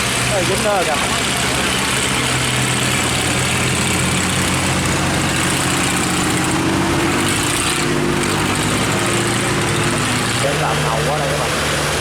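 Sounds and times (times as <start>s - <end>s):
boat engines droning: 0.0s - 12.0s
constant rushing noise: 0.0s - 12.0s.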